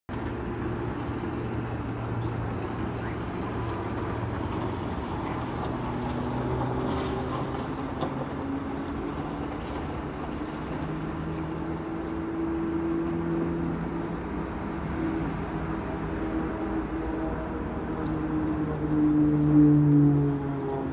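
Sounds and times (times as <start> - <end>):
airplane engine droning: 0.1 - 20.9.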